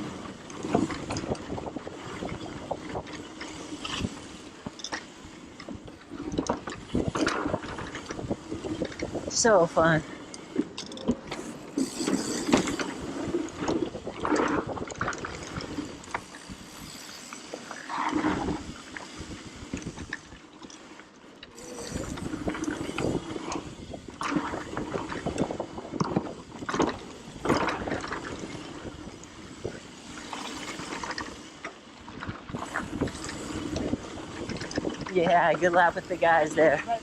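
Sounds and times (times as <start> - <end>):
wind on microphone: 0.0 - 20.4, 21.5 - 37.0
bike rattling over bumps: 0.0 - 37.0.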